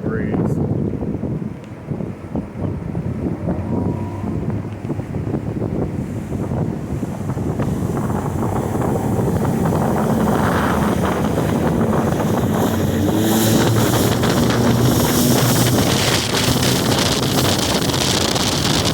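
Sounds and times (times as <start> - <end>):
rush of water and air: 0.0 - 18.9
wind on microphone: 0.0 - 18.9
outboard motor running hard: 1.0 - 18.9.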